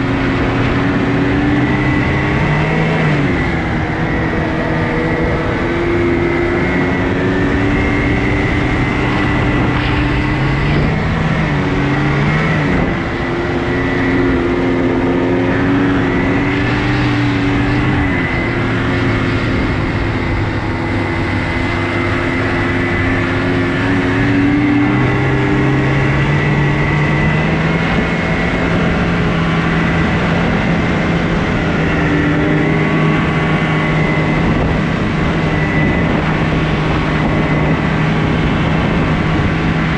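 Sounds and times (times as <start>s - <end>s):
snowmobile engine running: 0.0s - 39.9s
steady rushing noise: 0.0s - 39.9s.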